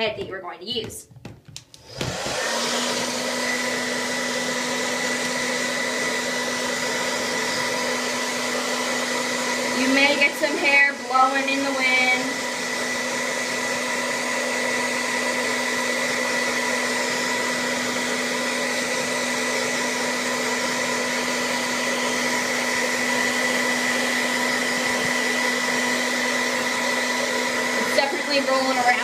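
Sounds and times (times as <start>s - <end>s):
hairdryer blowing air: 1.5s - 29.0s.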